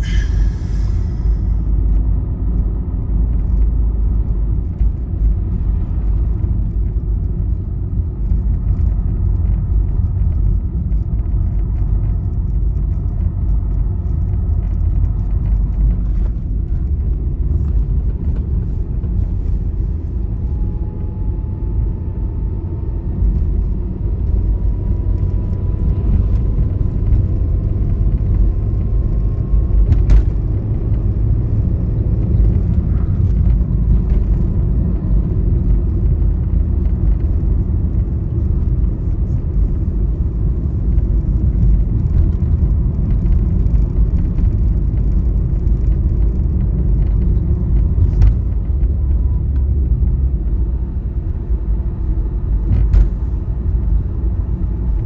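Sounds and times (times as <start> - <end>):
vehicle road rumble: 0.0 - 55.0.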